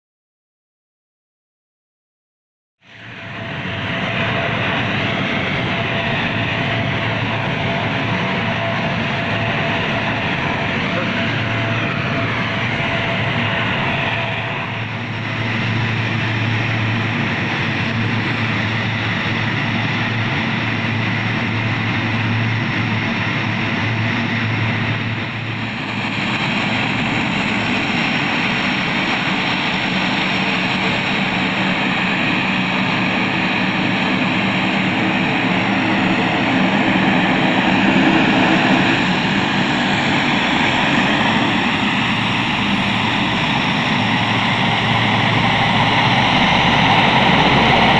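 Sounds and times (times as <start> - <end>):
turboprop engines droning: 2.8 - 47.9
propeller rush: 3.0 - 47.9.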